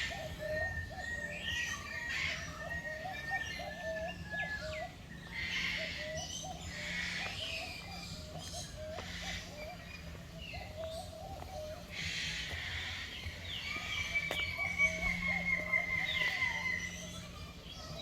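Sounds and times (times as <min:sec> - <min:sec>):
higher bird calls: 0:00.0 - 0:18.0.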